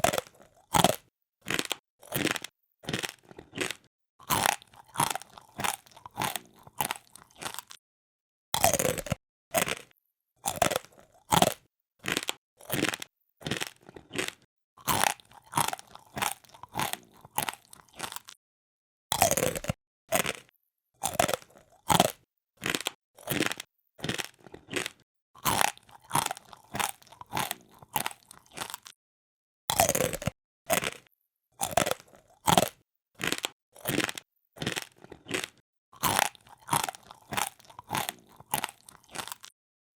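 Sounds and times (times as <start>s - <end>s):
person chewing crisp food: 0.0s - 7.8s, 8.6s - 18.4s, 19.1s - 29.0s, 29.7s - 39.6s.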